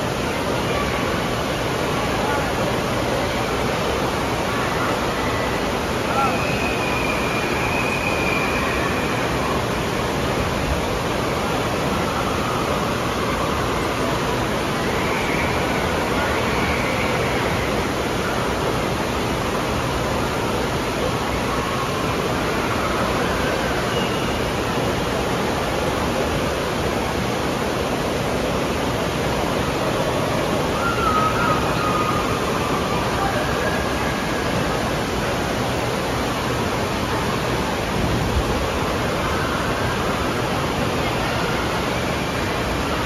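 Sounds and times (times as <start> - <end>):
water rushing into a pool: 0.0 - 43.0.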